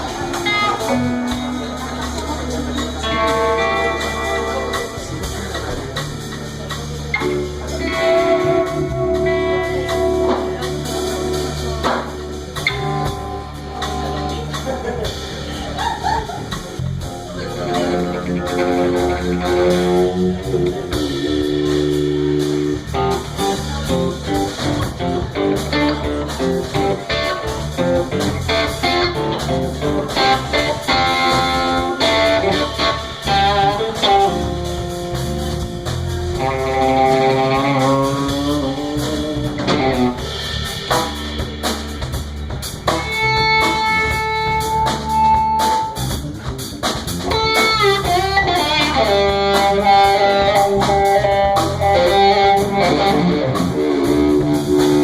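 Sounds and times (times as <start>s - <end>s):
bass: 0.0s - 55.0s
drums: 0.0s - 55.0s
electric guitar bluesy lead: 0.0s - 55.0s.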